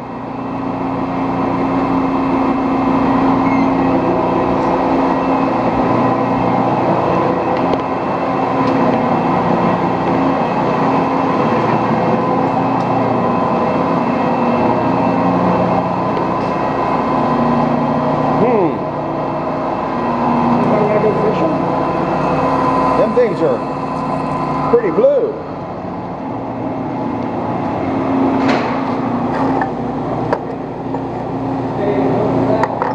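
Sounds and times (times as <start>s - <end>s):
metal lathe cutting humming: 0.0s - 32.9s.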